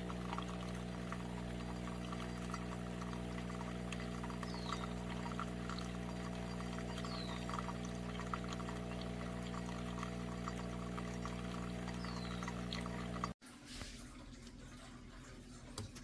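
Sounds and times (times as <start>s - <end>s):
coffee maker pump hum: 0.0s - 13.4s
hot water pouring into a cup: 0.0s - 13.4s.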